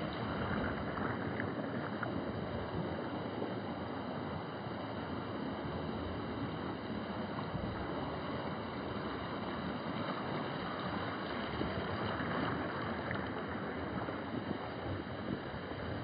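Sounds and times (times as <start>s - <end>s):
wind buffeting microphone: 0.0s - 3.8s, 5.6s - 16.0s
surf washing: 0.0s - 16.0s.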